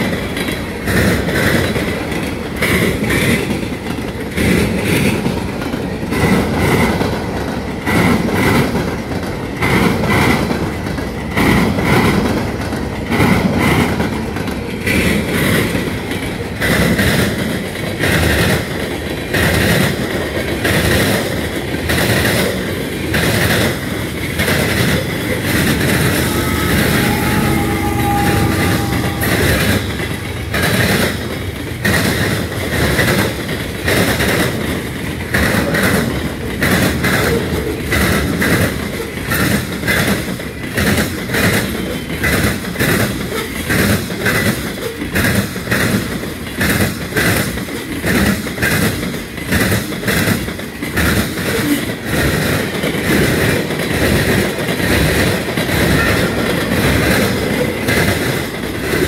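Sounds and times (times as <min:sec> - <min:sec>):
diesel locomotive passing: 0:00.0 - 0:59.0
train wheels clacking on rails: 0:00.0 - 0:59.0.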